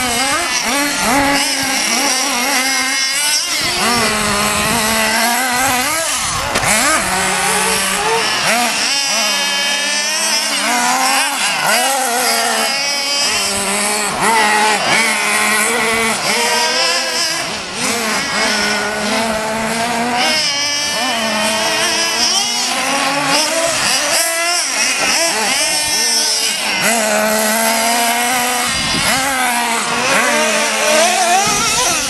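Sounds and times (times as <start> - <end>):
rc car engines revving: 0.0 - 32.0.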